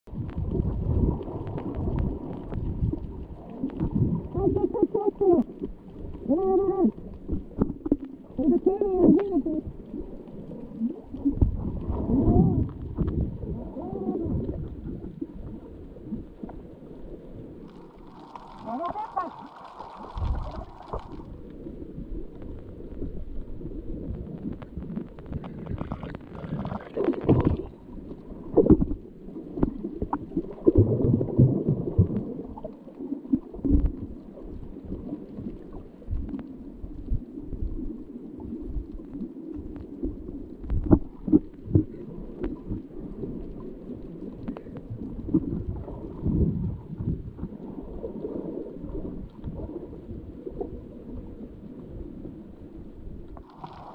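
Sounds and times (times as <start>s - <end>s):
underwater rumbling water wash: 0.0s - 53.9s.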